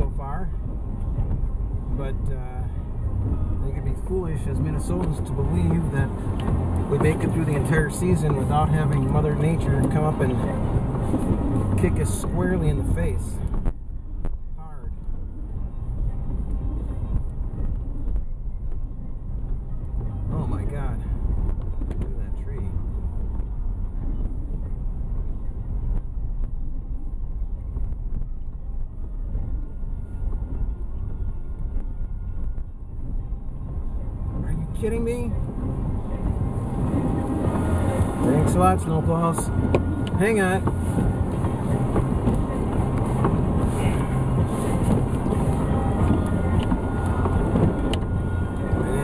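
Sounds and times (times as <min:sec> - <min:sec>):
car engine and tyres rumbling: 0:00.0 - 0:49.0.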